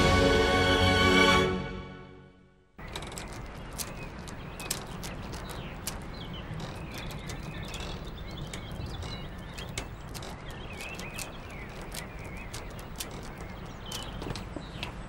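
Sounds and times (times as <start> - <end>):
birds chirping: 2.8 - 15.0
prayer beads clicking: 2.8 - 15.0.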